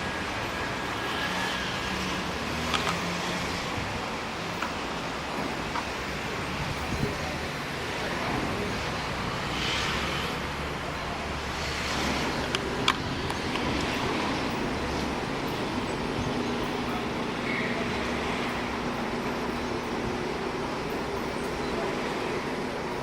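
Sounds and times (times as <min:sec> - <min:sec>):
steady rain: 0:00.0 - 0:23.0
street traffic: 0:00.0 - 0:23.0.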